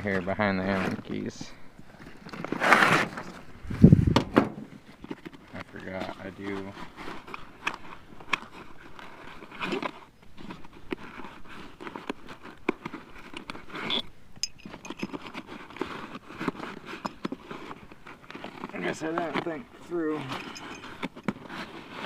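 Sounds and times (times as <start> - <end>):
rustling of fabric tool bag: 1.9 - 4.1, 4.7 - 22.0.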